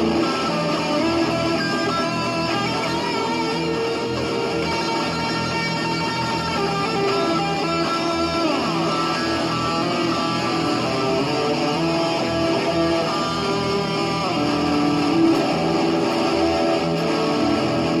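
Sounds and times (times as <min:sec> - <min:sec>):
guitar ringing notes: 0:00.0 - 0:18.0.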